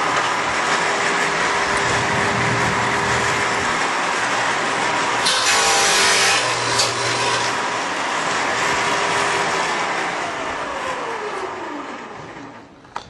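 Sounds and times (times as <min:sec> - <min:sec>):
table saw spinning down: 0:00.4 - 0:12.7.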